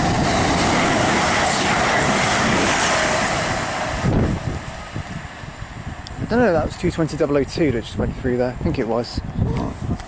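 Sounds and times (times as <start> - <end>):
train passing at speed: 0.0 - 9.9.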